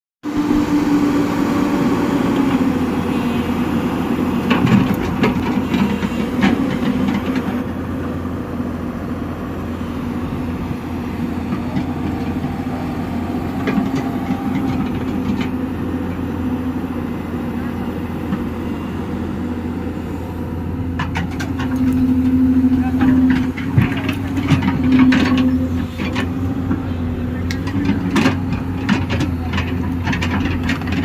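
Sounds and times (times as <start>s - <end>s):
excavator diesel engine running: 0.2s - 31.0s.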